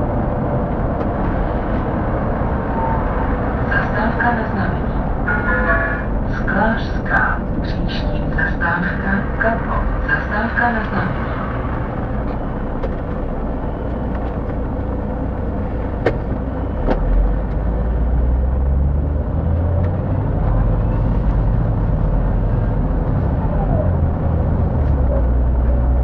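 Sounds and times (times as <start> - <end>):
bus diesel engine: 0.0 - 26.0.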